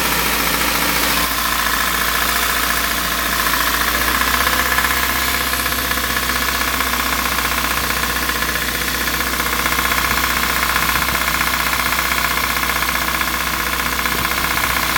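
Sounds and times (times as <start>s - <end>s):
car engine running: 0.0s - 14.9s
fast metallic engine knock: 0.0s - 14.9s.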